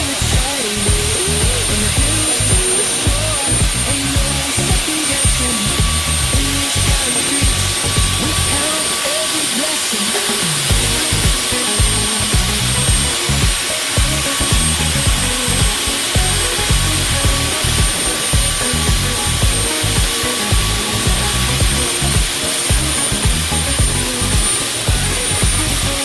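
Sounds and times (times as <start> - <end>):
background music with steady beat: 0.0 - 9.6, 10.3 - 26.0
concrete core drill grinding: 0.0 - 26.0.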